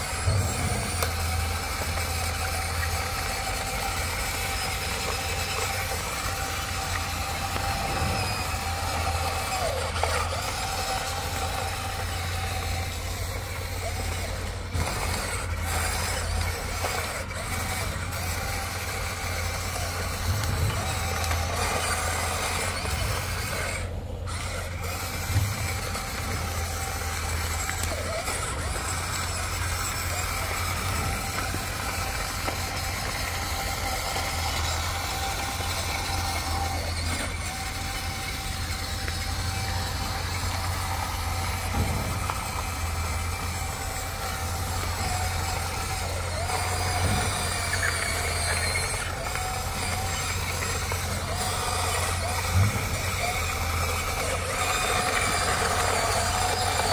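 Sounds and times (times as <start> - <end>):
toy excavator motors whirring: 0.0 - 56.9.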